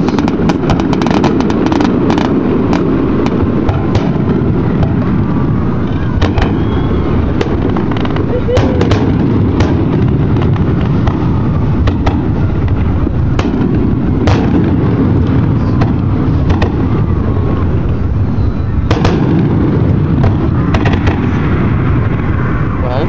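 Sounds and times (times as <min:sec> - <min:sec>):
fireworks shells bursting rumble: 0:00.0 - 0:22.3
fireworks sharp cracks: 0:00.0 - 0:22.8.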